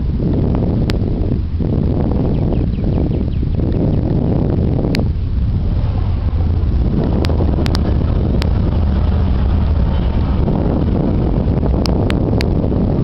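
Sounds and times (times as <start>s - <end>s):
ship engine rumbling: 0.0s - 13.0s.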